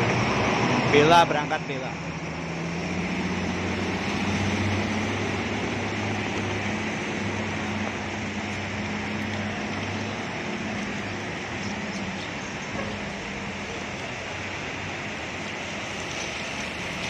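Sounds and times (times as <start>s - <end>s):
bus diesel engine humming: 0.0s - 17.0s
heavy rain on pavement: 0.0s - 17.0s.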